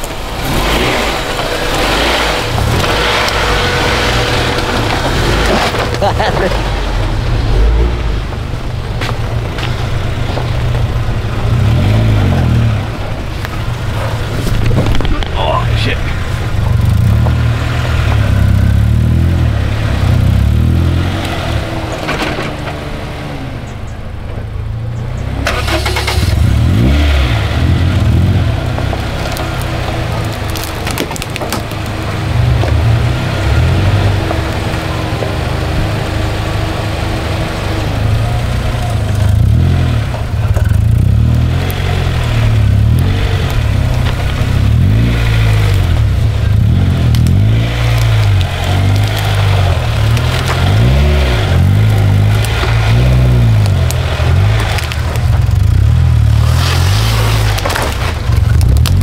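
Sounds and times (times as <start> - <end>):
engine revving: 0.0 - 23.9, 25.0 - 31.0, 31.6 - 59.0
car engine and road rumble: 0.0 - 59.0.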